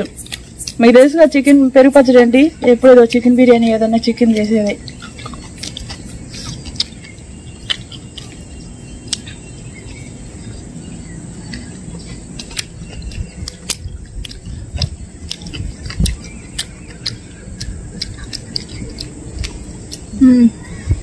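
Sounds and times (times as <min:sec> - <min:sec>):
bird chirps: 0:00.0 - 0:21.0
insects: 0:00.0 - 0:21.0
people chewing: 0:00.0 - 0:21.0.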